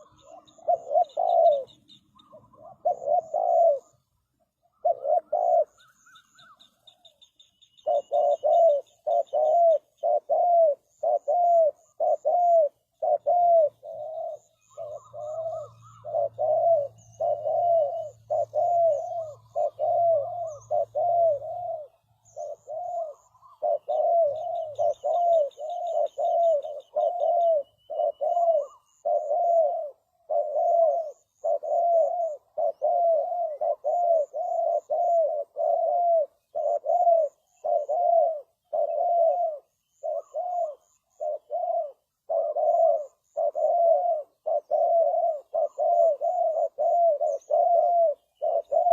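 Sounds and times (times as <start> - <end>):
dove cooing: 0.0 - 48.9
small birds chirping: 0.0 - 48.9.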